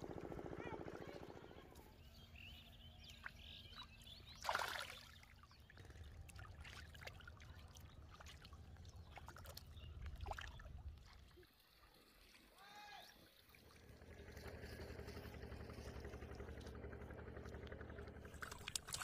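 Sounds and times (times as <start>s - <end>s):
fish splashing in shallow water: 3.1s - 19.0s
water trickling: 3.1s - 19.0s.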